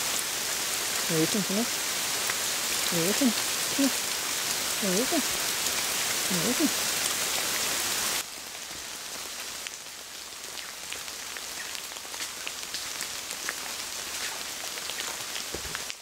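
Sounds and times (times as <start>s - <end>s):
rain on leaves: 0.0s - 16.0s.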